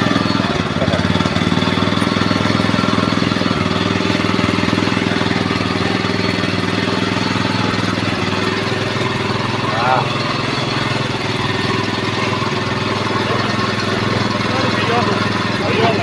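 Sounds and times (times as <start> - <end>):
machine chugging: 0.0 - 16.0.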